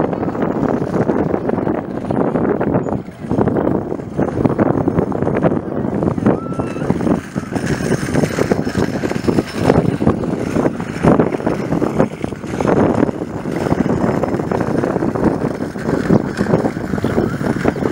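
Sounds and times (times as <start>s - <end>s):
aircraft engines and propellers: 0.0s - 17.9s
wind on microphone: 0.0s - 17.9s.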